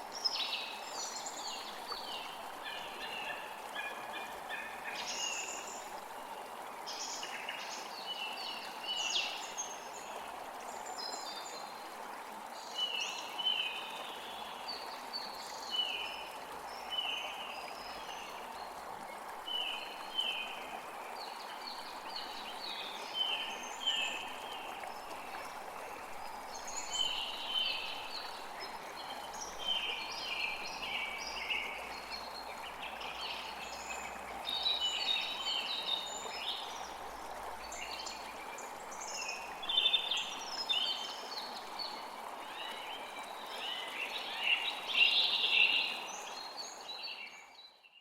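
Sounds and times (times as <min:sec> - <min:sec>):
creek flowing: 0:00.0 - 0:47.7.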